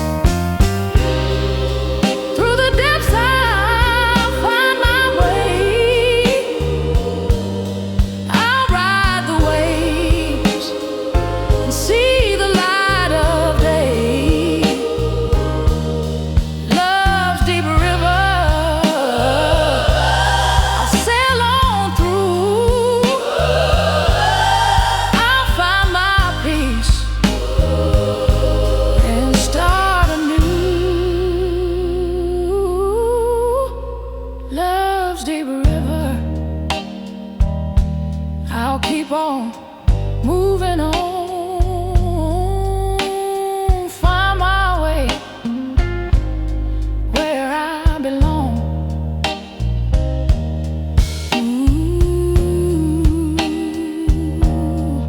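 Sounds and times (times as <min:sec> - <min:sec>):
slow soul song with drums and bass: 0:00.0 - 0:55.0
wordless vocal with vibrato: 0:00.9 - 0:37.4, 0:38.4 - 0:49.7, 0:51.3 - 0:55.0.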